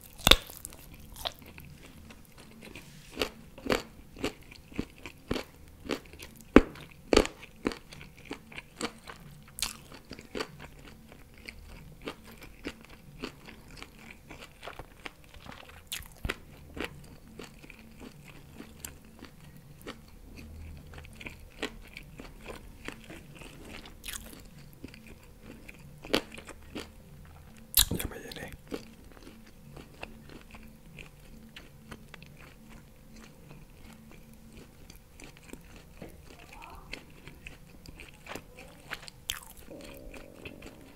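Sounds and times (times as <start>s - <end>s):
close chewing with mouth smacks: 0.0s - 40.9s.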